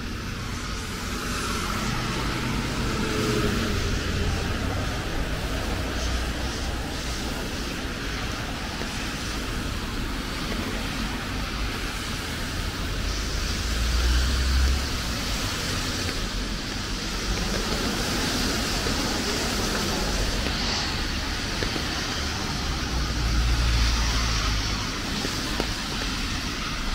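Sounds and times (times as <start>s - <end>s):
engine rumble: 0.0s - 26.9s
tyres hissing on wet road: 0.0s - 26.9s.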